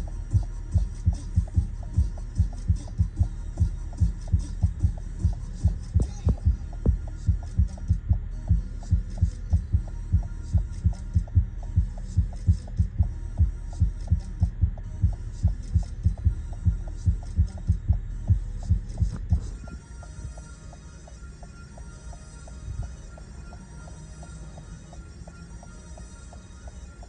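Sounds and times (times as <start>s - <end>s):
bass-heavy music from car stereo: 0.0s - 27.0s
low hum: 0.0s - 27.0s.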